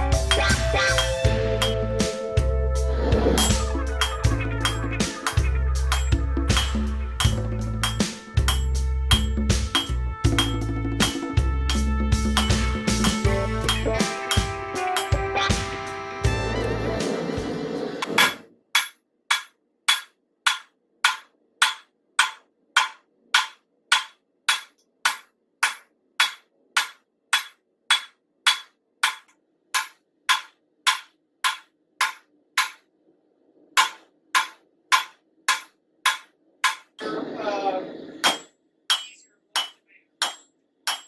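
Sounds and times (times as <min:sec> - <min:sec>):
hammer striking metal on anvil: 0:00.0 - 0:02.2, 0:03.3 - 0:15.7, 0:18.0 - 0:32.9, 0:33.8 - 0:37.0, 0:38.2 - 0:41.0.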